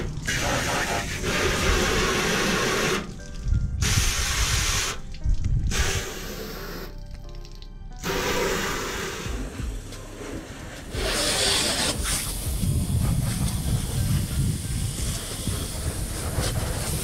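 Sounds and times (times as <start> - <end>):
hose water spraying on truck: 0.0 - 7.1, 8.0 - 17.0
low rumble: 0.0 - 11.1, 12.0 - 17.0.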